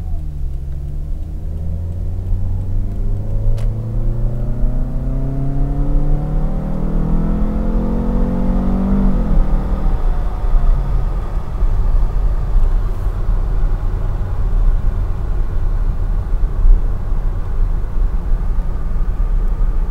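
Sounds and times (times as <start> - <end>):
car engine rumble: 0.0 - 19.9
road noise: 0.0 - 19.9.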